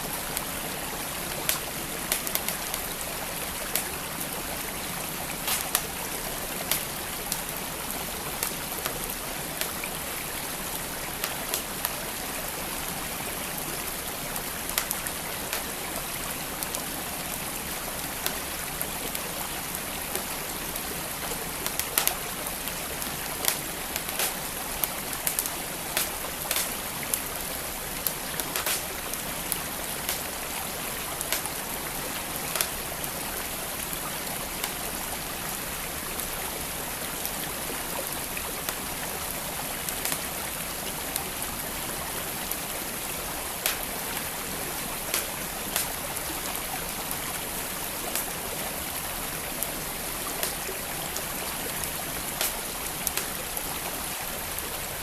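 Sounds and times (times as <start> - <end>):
creek flowing: 0.0 - 55.0
wood fire crackling: 0.1 - 55.0.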